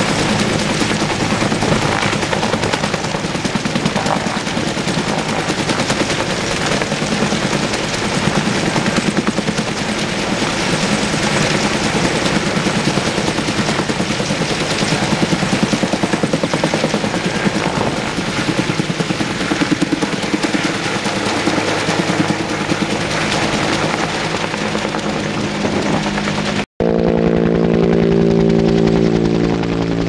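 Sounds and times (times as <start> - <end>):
helicopter engine running: 0.0 - 30.0
helicopter rotor chopping: 0.0 - 30.0.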